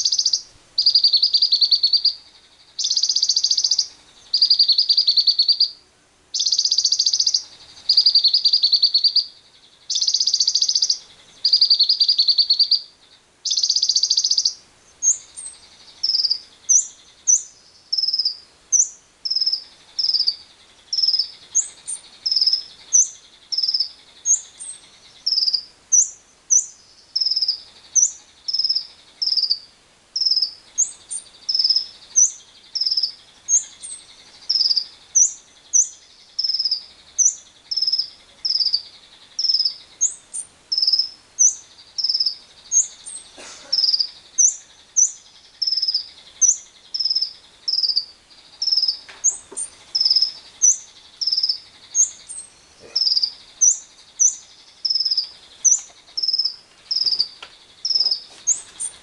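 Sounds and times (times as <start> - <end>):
bird shrill chirps: 0.0 - 59.0
insects droning: 0.0 - 59.0.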